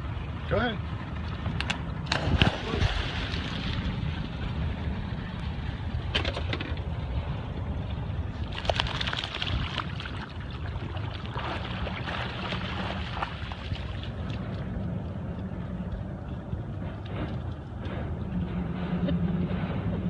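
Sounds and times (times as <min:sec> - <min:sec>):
water sound: 0:00.0 - 0:06.2, 0:06.8 - 0:18.8.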